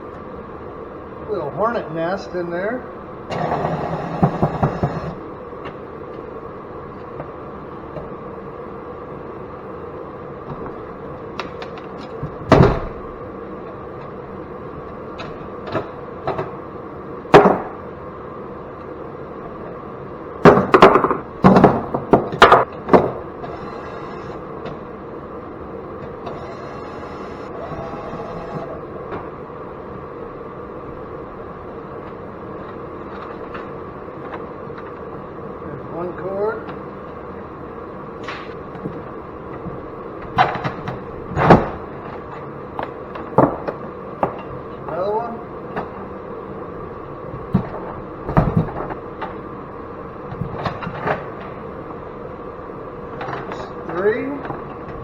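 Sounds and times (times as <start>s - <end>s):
space heater humming: 0.0s - 55.0s.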